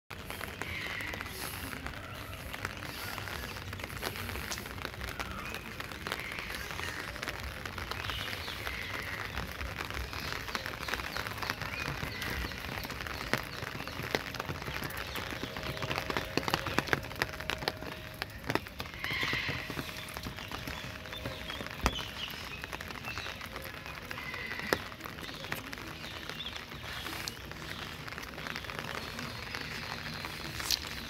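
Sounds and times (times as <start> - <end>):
rain falling on wet paving: 0.1 - 31.0.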